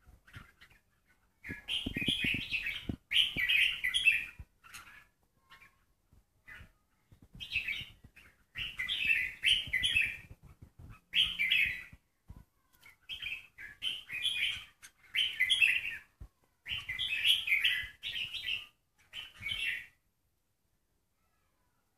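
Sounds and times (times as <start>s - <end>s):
bird singing warbled phrases: 0.0s - 20.0s.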